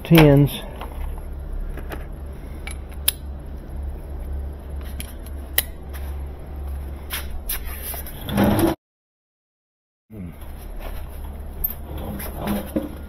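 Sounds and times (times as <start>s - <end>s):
steady low hum: 0.0s - 8.7s, 10.1s - 13.0s.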